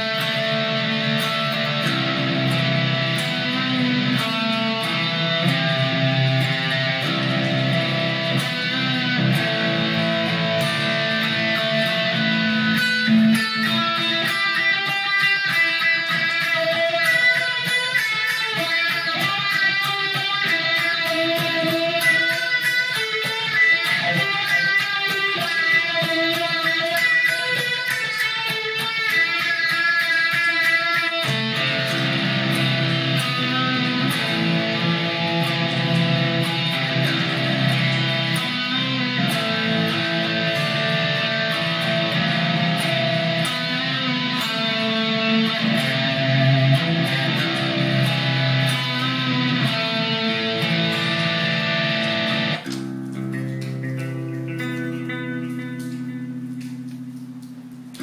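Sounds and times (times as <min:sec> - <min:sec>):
electric guitar picking melody: 0:00.0 - 0:58.0.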